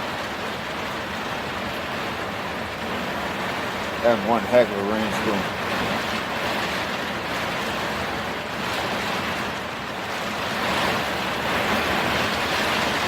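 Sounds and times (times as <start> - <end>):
heavy rain on a camper: 0.0 - 13.0
wind: 0.0 - 13.0.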